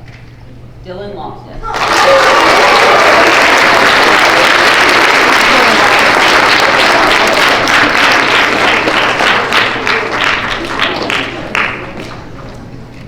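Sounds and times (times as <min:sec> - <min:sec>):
children applauding: 0:01.7 - 0:12.2.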